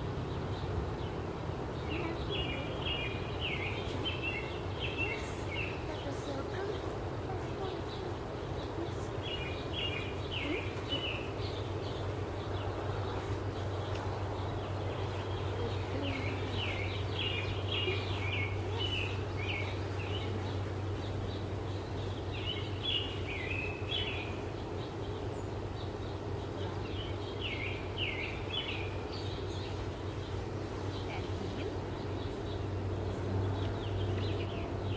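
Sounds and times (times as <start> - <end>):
songbird singing: 0.0 - 34.9
steady low hum: 0.0 - 34.9.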